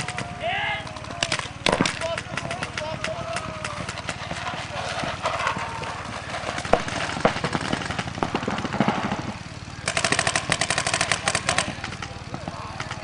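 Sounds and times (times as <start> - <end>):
paintball markers firing rapidly: 0.0 - 13.0.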